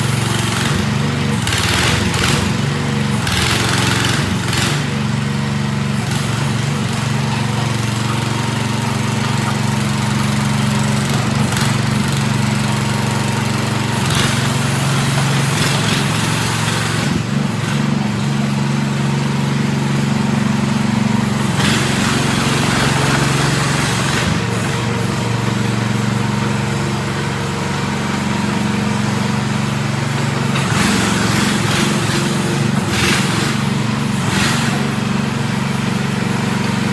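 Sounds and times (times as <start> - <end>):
small gas engine running: 0.0 - 36.9.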